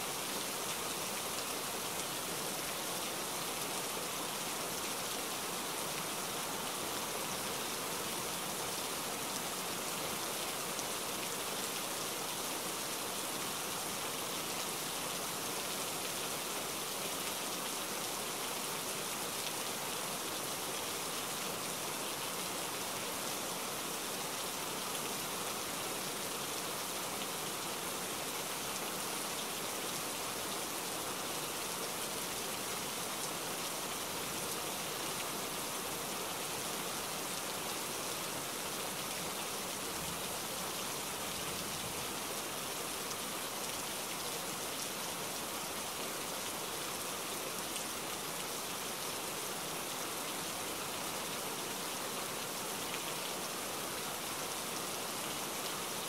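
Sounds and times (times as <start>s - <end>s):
rain on paving stones: 0.0s - 56.0s.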